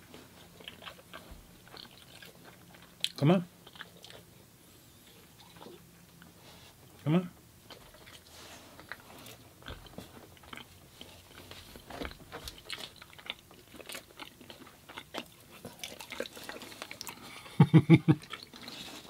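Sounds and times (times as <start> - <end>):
chewing and biting food: 0.0 - 6.4, 7.6 - 19.0.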